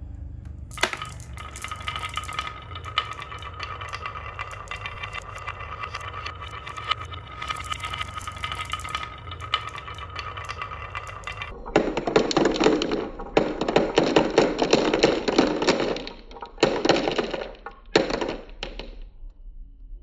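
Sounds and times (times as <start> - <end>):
marbles rolling on wood: 0.5 - 19.1
marbles clattering in plastic: 0.7 - 19.0.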